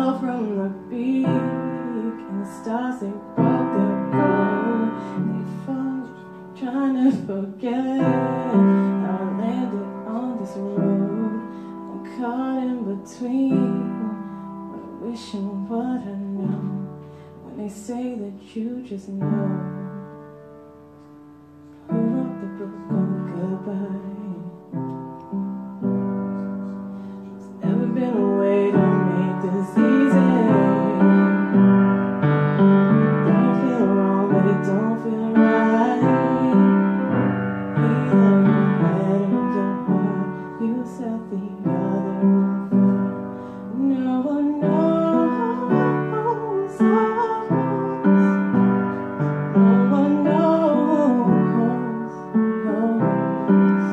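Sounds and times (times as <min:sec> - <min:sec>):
piano chords: 0:00.0 - 0:53.9.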